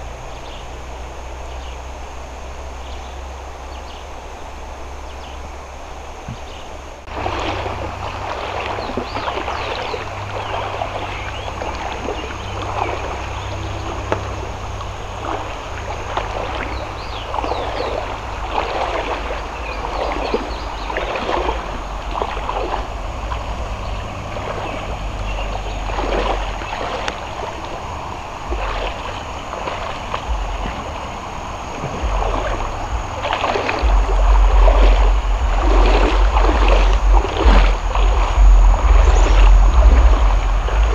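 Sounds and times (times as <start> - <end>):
river water running over rocks: 0.0 - 40.9
wind rumble on microphone: 0.0 - 40.9
small water splashes: 6.3 - 40.9.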